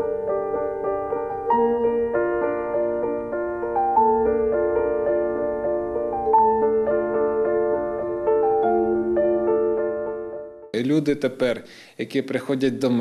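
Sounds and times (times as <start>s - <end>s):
sustained keyboard chords: 0.0s - 10.8s.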